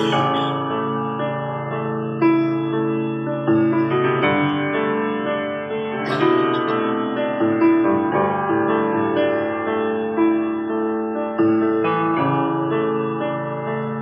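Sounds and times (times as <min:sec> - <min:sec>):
keyboard playing slow chords: 0:00.0 - 0:14.0.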